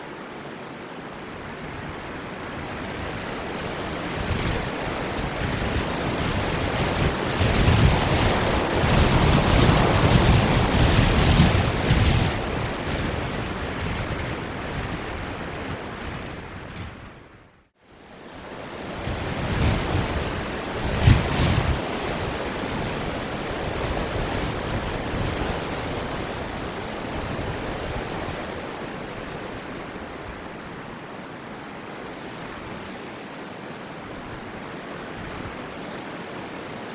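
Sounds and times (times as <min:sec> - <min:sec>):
strong wind gusting on microphone: 0:00.0 - 0:36.9.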